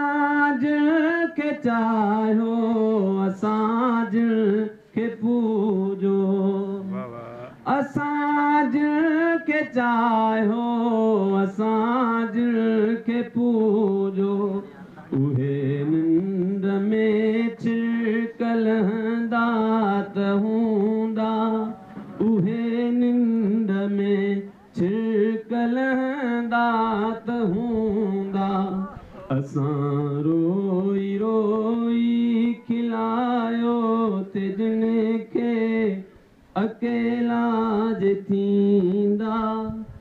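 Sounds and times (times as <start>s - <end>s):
man singing into microphone: 0.0s - 40.0s.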